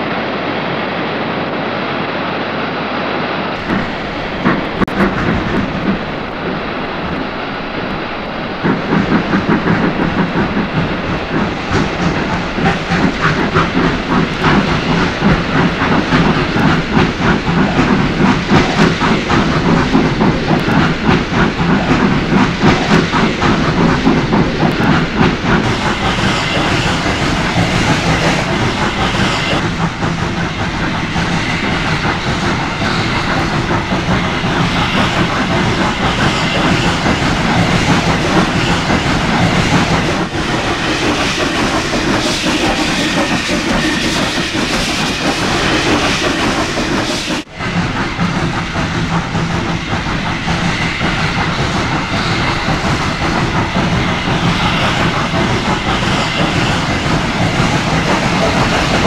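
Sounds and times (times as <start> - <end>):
steam hissing: 3.2 - 59.0
rail clatter: 3.6 - 59.0
steam locomotive exhaust beats: 3.6 - 59.0.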